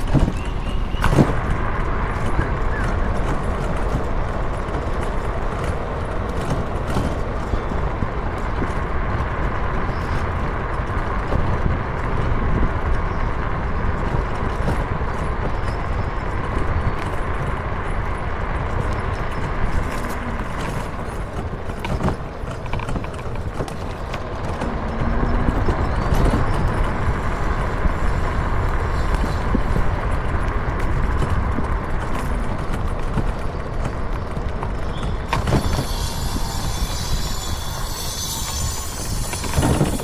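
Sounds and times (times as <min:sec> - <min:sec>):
tyre rumble: 0:00.0 - 0:40.0
wind buffeting on microphone: 0:00.0 - 0:40.0.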